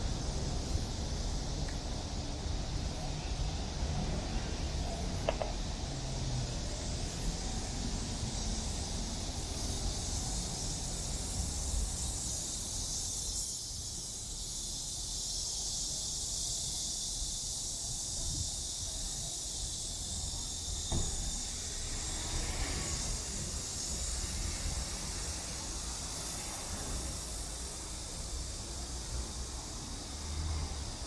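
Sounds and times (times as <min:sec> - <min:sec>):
cicadas high hiss: 0:00.0 - 0:31.0.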